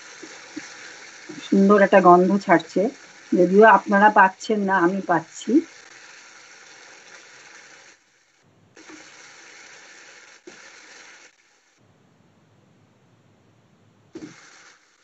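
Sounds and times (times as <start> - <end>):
spices sizzling in oil: 0.0 - 11.8, 14.2 - 15.0.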